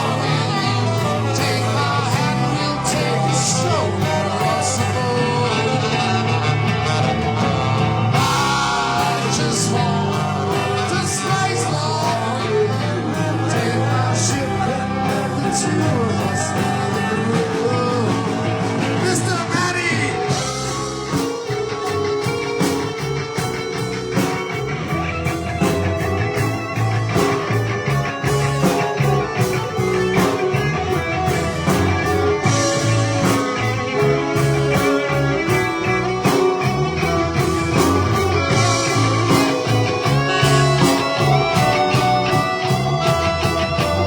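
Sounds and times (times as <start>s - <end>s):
electric guitar lead: 0.0s - 44.0s
rock band playing: 0.0s - 44.0s.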